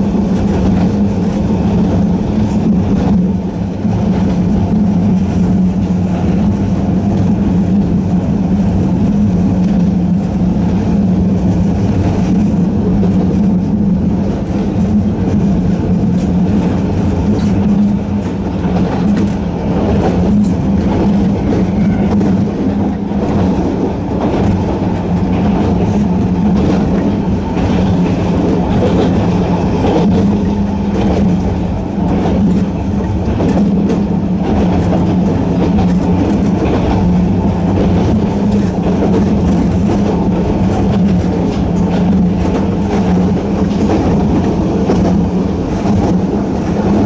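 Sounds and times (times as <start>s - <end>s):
electric train running: 0.0s - 47.0s
wheels clicking on rail: 0.0s - 47.0s.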